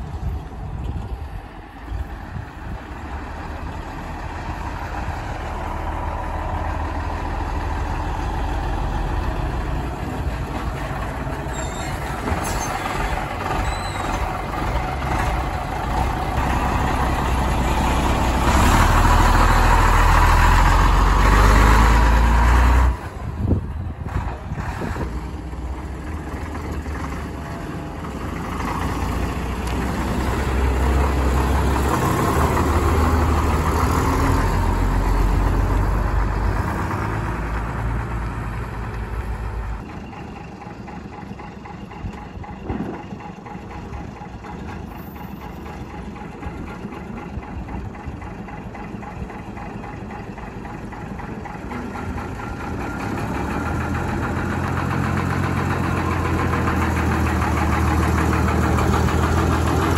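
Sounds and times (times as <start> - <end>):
bus engine approaching: 0.0 - 59.9
truck engine rumble: 0.0 - 59.9.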